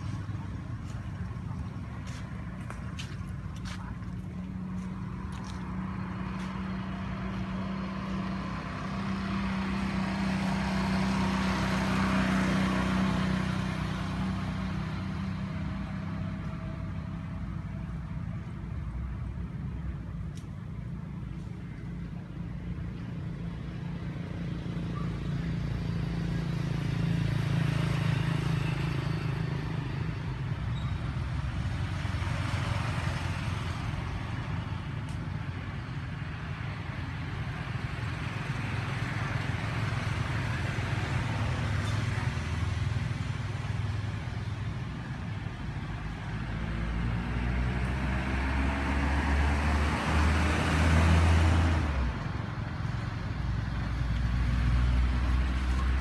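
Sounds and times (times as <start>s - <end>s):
traffic engine rumble: 0.0s - 56.0s.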